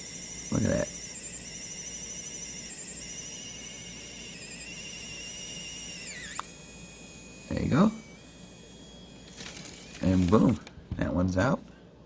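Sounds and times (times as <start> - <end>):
pen motor warbling whine: 0.0 - 10.7.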